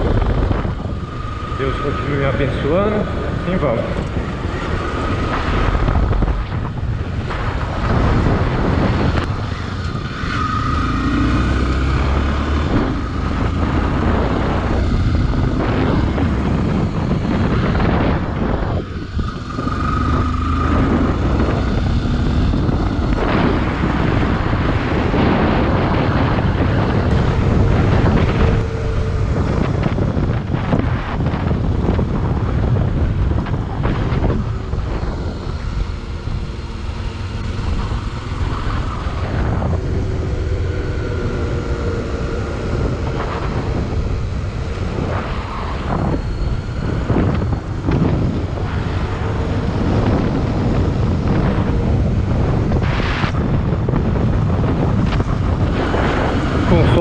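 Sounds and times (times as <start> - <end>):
off-road motorcycle engine revving: 0.0 - 57.0
wind buffeting microphone: 0.0 - 57.0.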